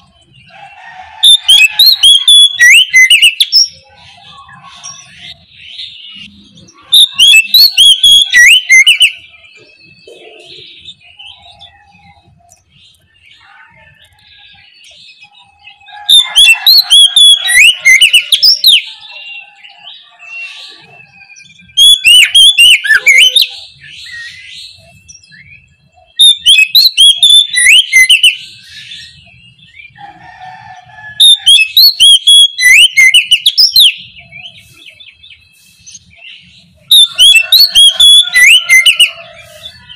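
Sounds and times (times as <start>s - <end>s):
bird singing rapid whistled notes: 1.2s - 30.0s, 30.8s - 39.9s.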